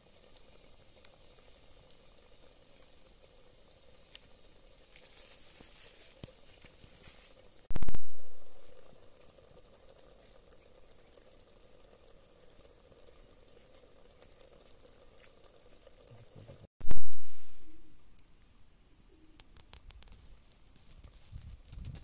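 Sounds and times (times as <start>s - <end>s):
food sizzling and bubbling: 0.0s - 22.0s.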